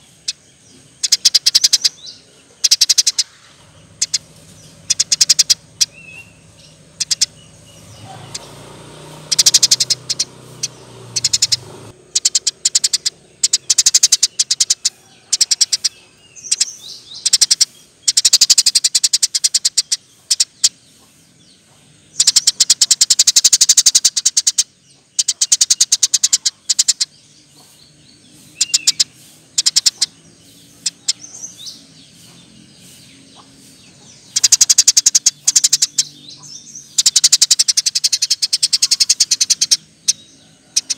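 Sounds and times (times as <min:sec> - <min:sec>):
sparrow chirping: 0:00.0 - 0:40.9.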